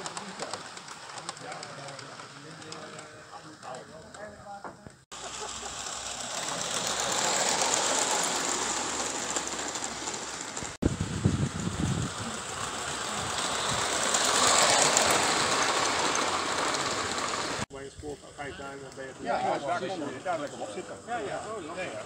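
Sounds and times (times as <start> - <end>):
model train wheels rattling: 0.0 - 4.4, 5.1 - 22.0.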